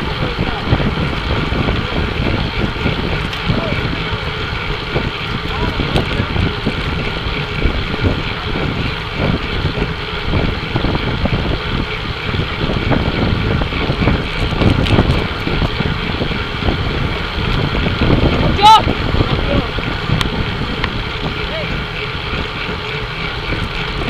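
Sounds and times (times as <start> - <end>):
bicycles rolling: 0.0 - 24.0
wind buffeting microphone: 0.0 - 24.0.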